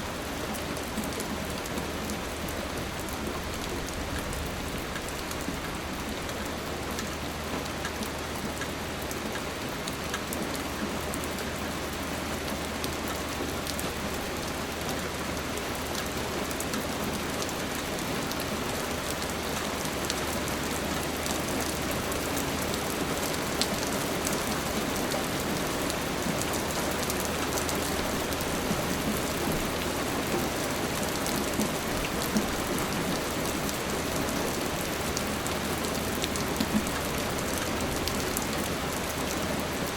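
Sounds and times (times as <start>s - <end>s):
steady rain falling: 0.0s - 39.9s
rain drops ticking: 0.1s - 39.9s.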